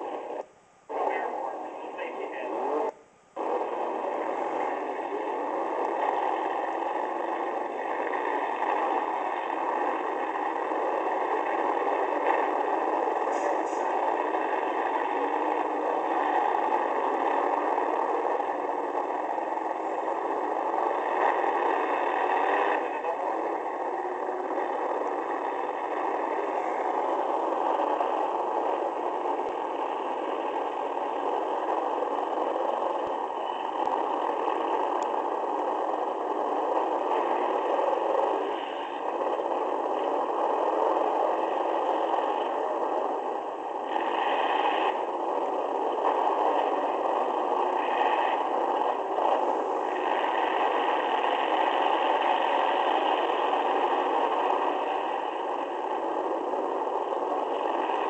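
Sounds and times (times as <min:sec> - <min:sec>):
car engine rough drone: 0:00.0 - 0:58.0.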